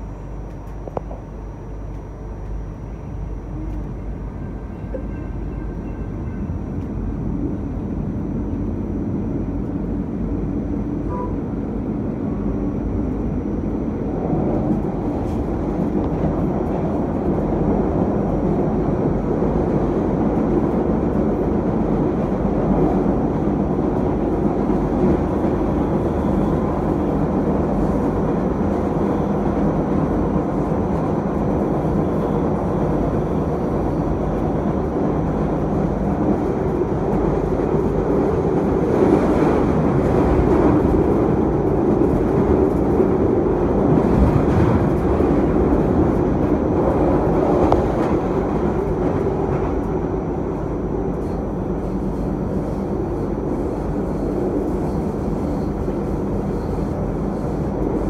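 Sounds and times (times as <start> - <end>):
light rail train wheels rumbling: 0.0 - 58.0.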